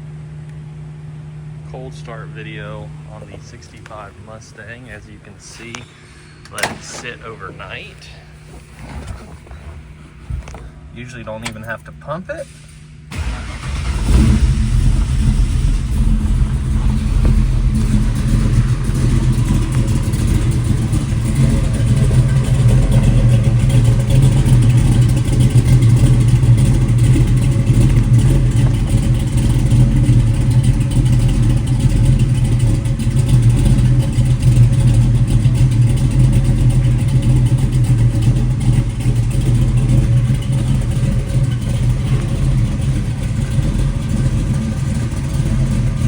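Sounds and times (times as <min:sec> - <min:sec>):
car engine running loudly: 0:01.6 - 0:11.6, 0:12.4 - 0:46.0.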